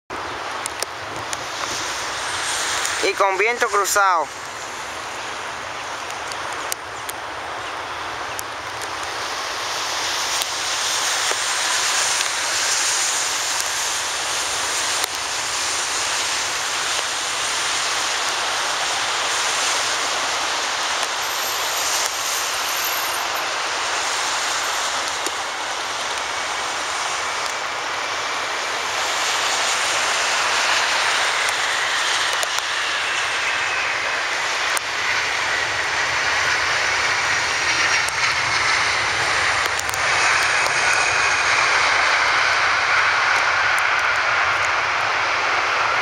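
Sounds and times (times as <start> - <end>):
high engine whine: 0.1 - 46.0
jet engines roaring: 0.1 - 46.0.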